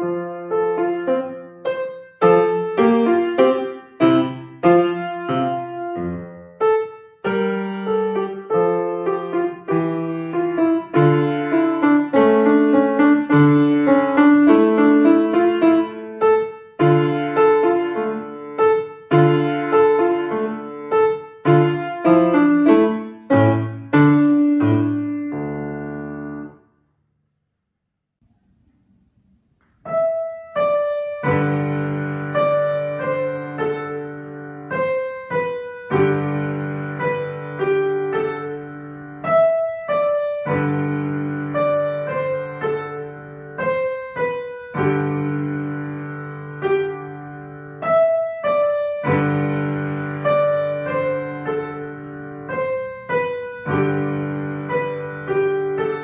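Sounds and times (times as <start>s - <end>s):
piano playing: 0.0s - 26.7s, 29.8s - 56.0s.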